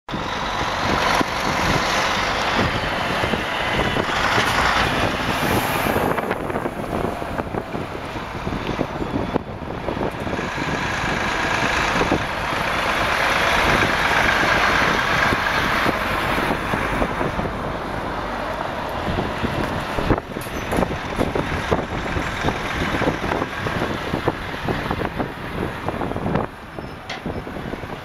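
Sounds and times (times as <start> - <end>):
trucks driving past: 0.1 - 28.0.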